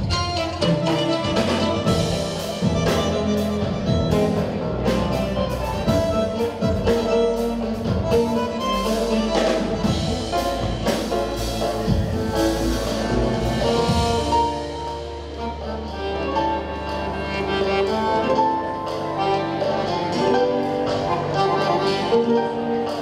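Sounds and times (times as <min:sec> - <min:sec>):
electronic tango band playing: 0:00.0 - 0:23.0.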